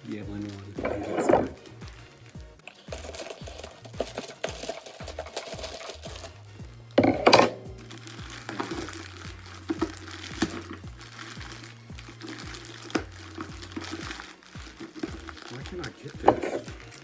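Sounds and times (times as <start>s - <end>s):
background music with low beat: 0.0s - 17.0s
plastic bag crinkling and tearing: 0.0s - 17.0s.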